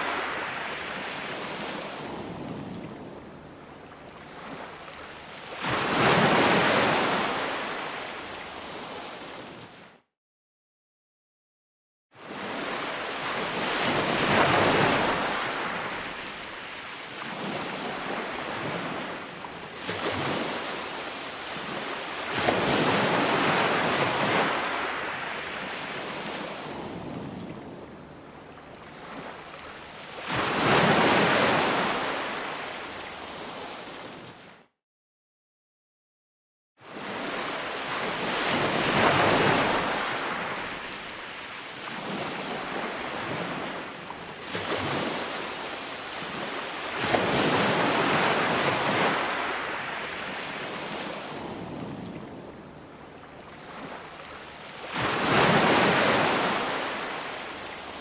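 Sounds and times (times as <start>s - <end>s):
ocean waves breaking: 0.0s - 9.8s, 12.2s - 34.5s, 36.9s - 58.0s.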